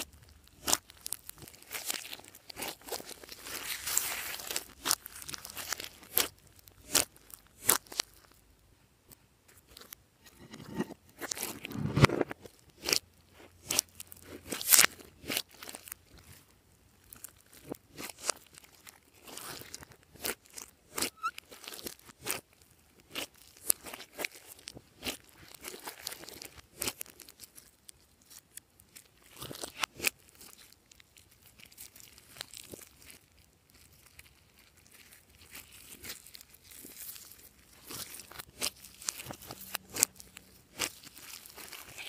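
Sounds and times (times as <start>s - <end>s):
slime clicks and crackles: 0.0s - 8.4s, 12.4s - 42.0s.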